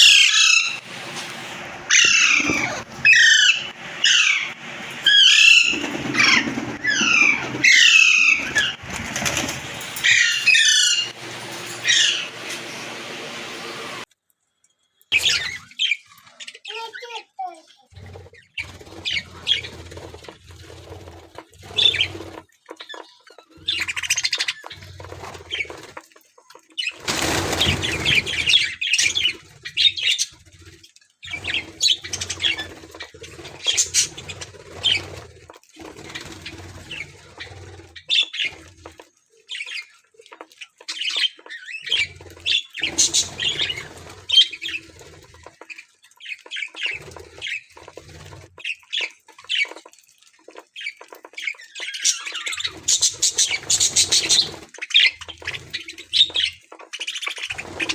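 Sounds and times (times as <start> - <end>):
budgerigars chirping and chattering: 0.0 - 14.0, 15.2 - 17.6, 18.2 - 25.9, 26.8 - 30.4, 31.2 - 38.6, 39.5 - 49.9, 50.5 - 57.9
wings flapping: 0.0 - 14.0, 18.0 - 57.9.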